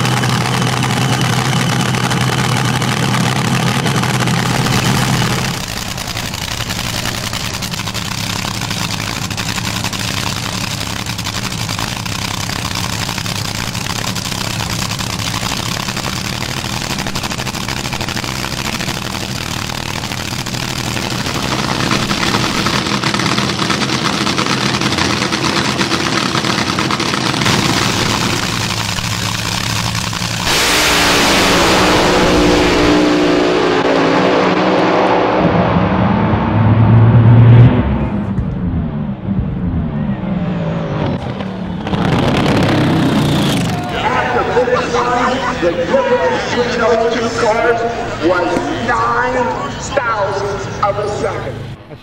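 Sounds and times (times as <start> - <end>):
dragster engines idling: 0.0 - 34.8, 38.0 - 52.0
engine revving to full throttle: 0.0 - 48.4.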